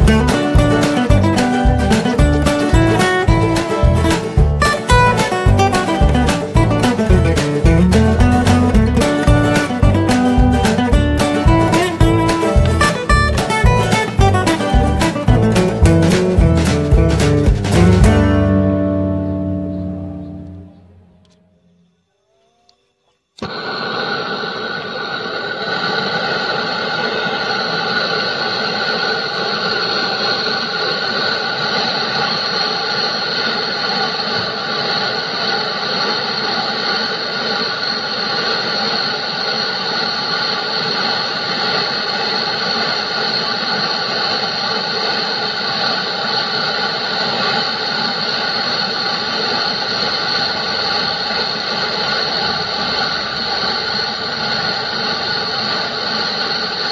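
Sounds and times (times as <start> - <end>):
gas torch hissing: 0.0 - 21.1, 23.4 - 56.9.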